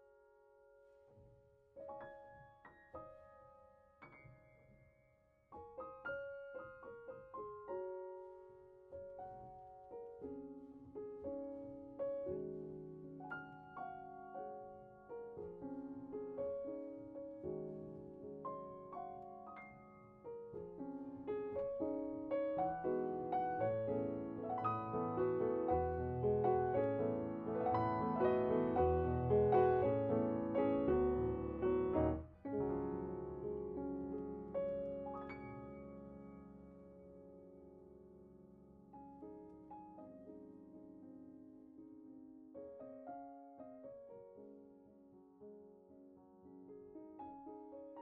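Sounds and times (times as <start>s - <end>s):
slow piano music: 0.0s - 48.0s.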